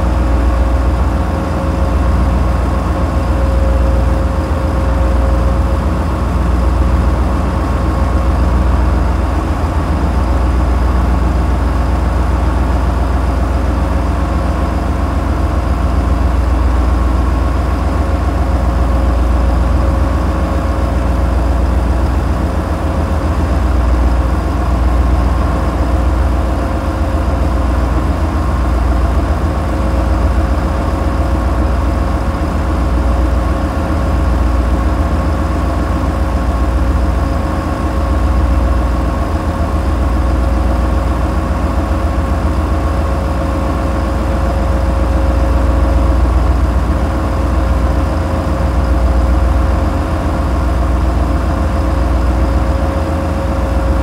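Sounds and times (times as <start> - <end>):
boat engines low rumble: 0.0 - 54.0
steady hum: 0.0 - 54.0.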